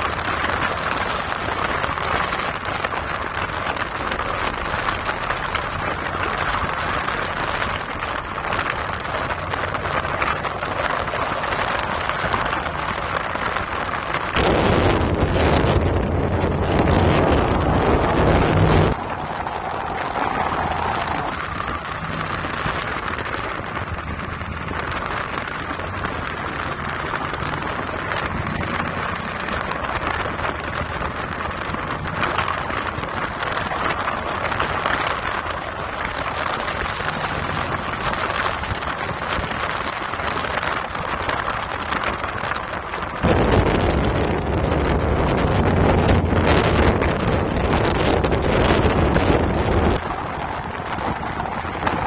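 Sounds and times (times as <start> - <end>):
car road noise: 0.0 - 52.0
wind buffeting microphone: 0.0 - 52.0.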